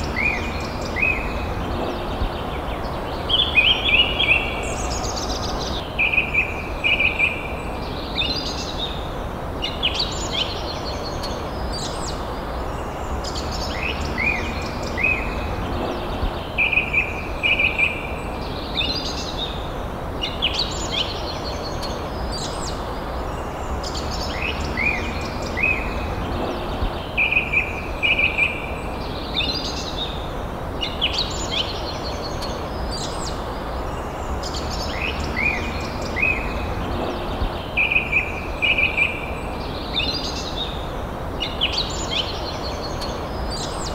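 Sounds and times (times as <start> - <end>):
birds calling and chirping: 0.0 - 43.9
steady background hiss: 0.0 - 43.9.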